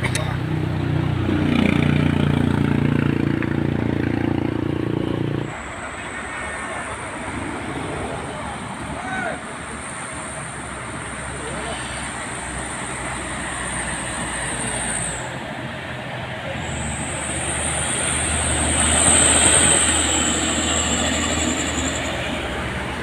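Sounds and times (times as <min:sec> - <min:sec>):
diesel truck engine labouring: 0:00.0 - 0:23.0
high-pitched whine: 0:03.9 - 0:23.0.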